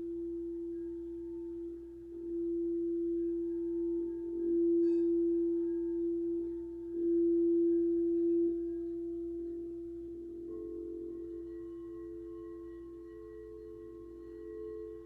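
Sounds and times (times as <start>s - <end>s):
crystal singing bowl ringing: 0.0s - 15.0s
higher-pitched singing bowl: 0.0s - 15.0s.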